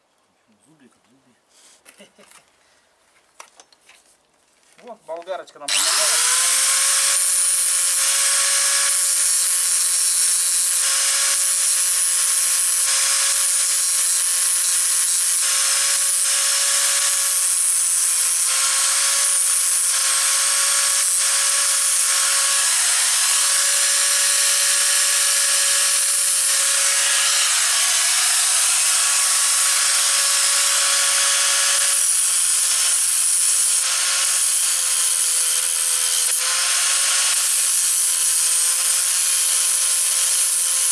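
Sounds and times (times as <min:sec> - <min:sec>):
angle grinder grinding metal: 0:05.7 - 0:40.9.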